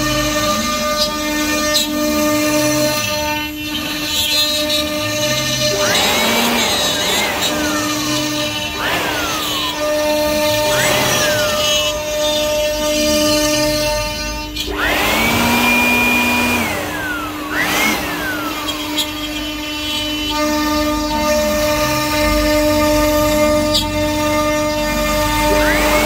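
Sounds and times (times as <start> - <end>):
power tool motor whining: 0.0 - 26.0.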